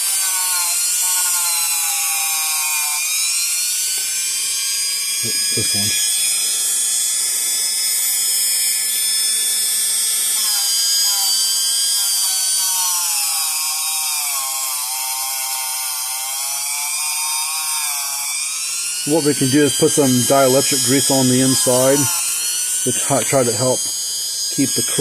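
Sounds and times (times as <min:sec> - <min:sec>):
rotary tool whining: 0:00.0 - 0:25.0.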